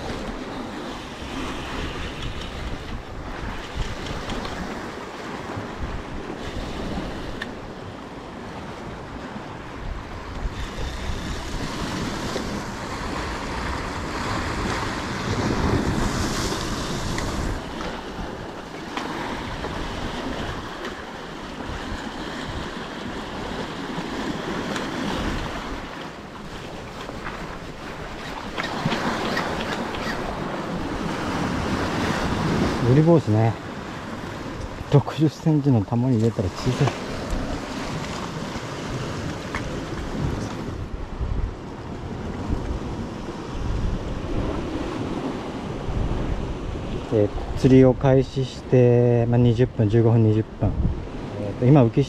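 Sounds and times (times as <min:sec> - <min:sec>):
waves splashing against rocks: 0:00.0 - 0:48.0
wind buffeting microphone: 0:00.0 - 0:48.2, 0:49.2 - 0:52.0.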